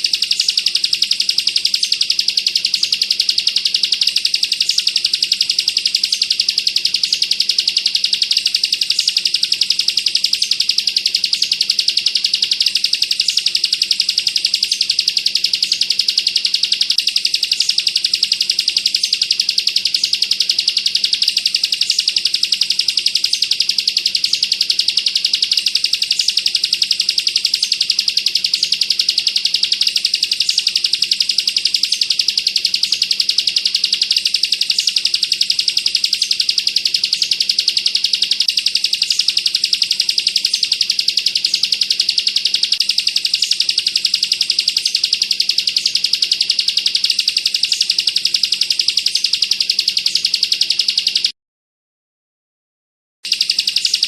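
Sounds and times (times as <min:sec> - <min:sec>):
bird singing high trill: 0:00.0 - 0:51.3, 0:53.3 - 0:54.0.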